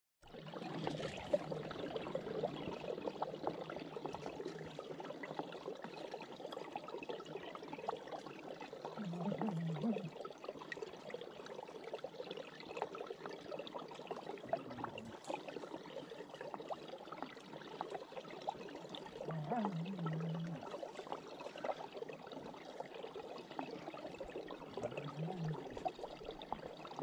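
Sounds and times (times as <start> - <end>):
water drips and splashes: 0.2 - 27.0.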